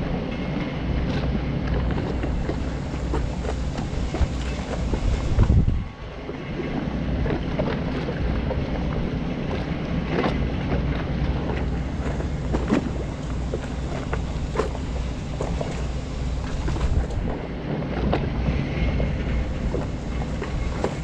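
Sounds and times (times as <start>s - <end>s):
steady low drone: 0.0s - 21.0s
wind buffeting microphone: 0.0s - 21.0s.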